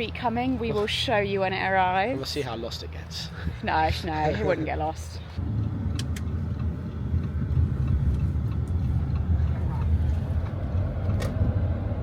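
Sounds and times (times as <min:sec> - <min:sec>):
moving car rumble: 0:00.0 - 0:12.0.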